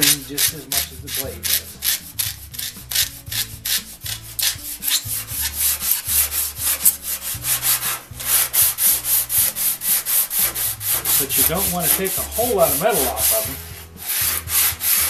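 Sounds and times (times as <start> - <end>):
sandpaper rasping on saw blade: 0.0 - 15.0.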